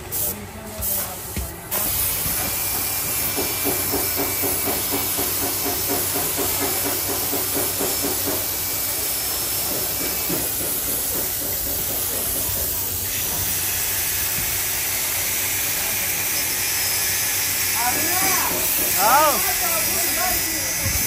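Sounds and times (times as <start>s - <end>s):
compressed air hissing: 0.0s - 21.0s.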